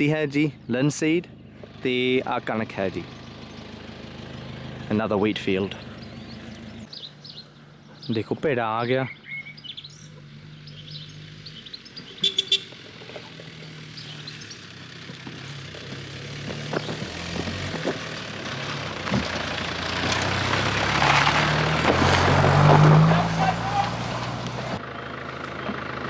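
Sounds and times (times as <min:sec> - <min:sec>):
road noise: 0:00.0 - 0:26.0
vehicle engine running: 0:00.0 - 0:26.0.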